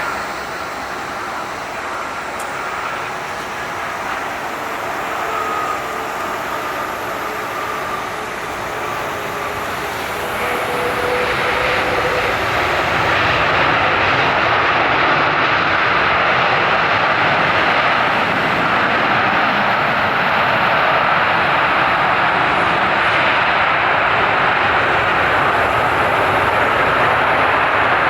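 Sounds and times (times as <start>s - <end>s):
faint steady whine: 0.0s - 28.0s
jet engines running: 0.0s - 28.0s.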